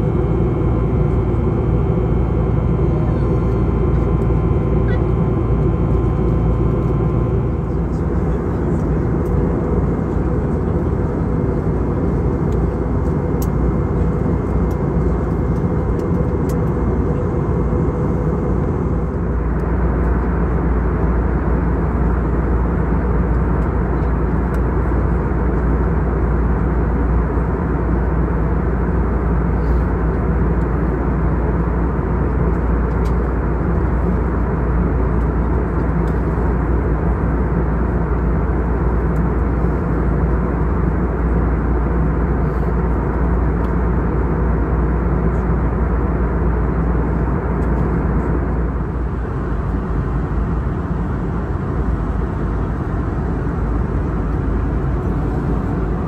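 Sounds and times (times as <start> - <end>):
aircraft cabin rumble and hiss: 0.0 - 56.0
steady engine tones: 0.0 - 56.0.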